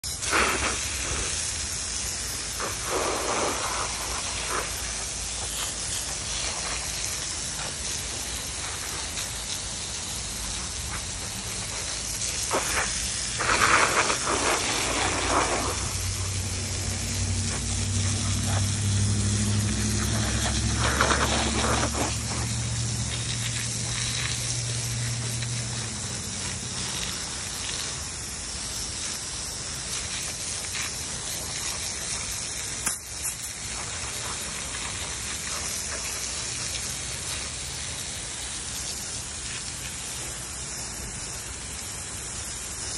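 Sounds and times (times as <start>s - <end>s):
pressure washer spraying wood: 0.0s - 42.9s.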